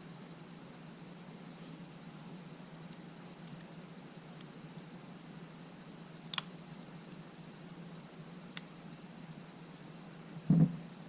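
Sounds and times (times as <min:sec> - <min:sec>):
background hiss: 0:00.0 - 0:11.0
low hum: 0:00.0 - 0:11.0.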